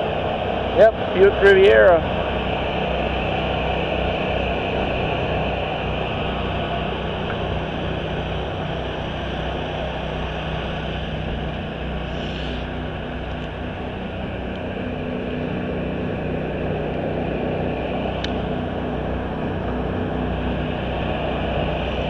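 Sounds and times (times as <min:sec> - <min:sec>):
engine running hum: 0:00.0 - 0:22.0.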